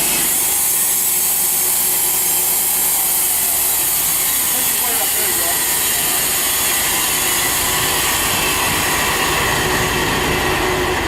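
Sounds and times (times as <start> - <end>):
saw blade hissing through log: 0.0 - 9.0
sawmill engine running: 0.0 - 11.0.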